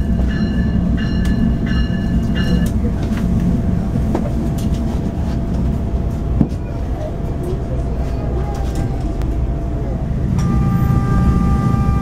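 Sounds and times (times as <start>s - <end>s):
railcar engine rumble: 0.0s - 12.0s.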